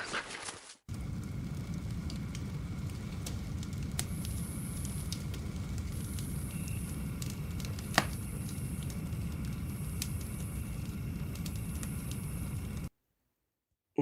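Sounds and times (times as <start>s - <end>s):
wood fire crackling and popping: 0.4s - 12.9s
low rumble: 0.9s - 12.9s.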